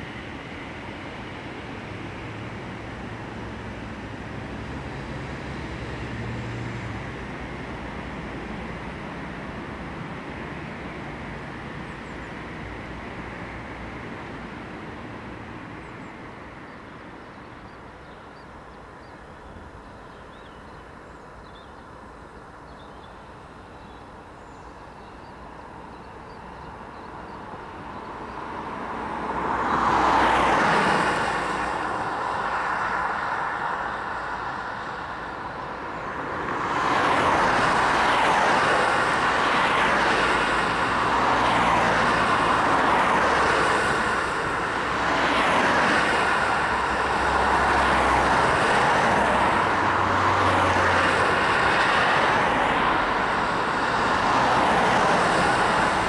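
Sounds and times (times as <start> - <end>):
car passing: 0.0 - 16.7, 27.6 - 56.0
faint traffic noise: 0.0 - 56.0.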